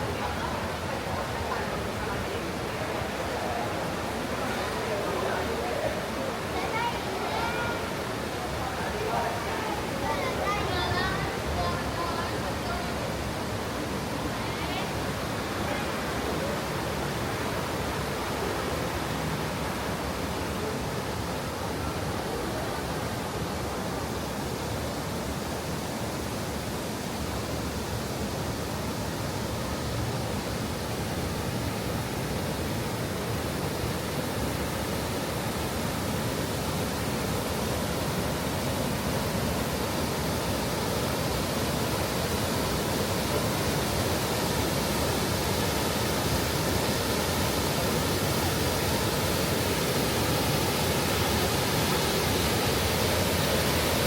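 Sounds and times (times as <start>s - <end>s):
rushing stream water: 0.0s - 54.0s.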